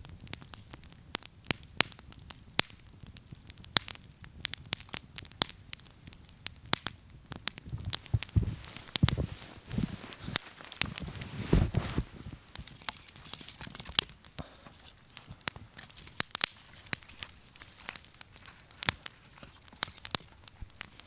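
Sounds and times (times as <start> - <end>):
campfire crackling and popping: 0.0 - 21.0
faint fire hiss: 0.0 - 21.0.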